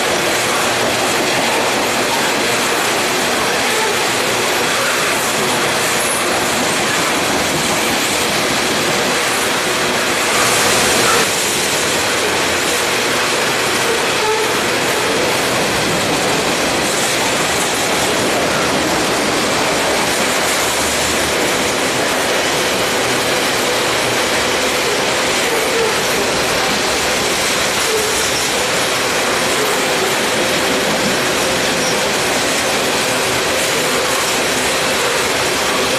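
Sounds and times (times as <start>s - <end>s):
freight train wheels clattering on rails: 0.0s - 35.9s.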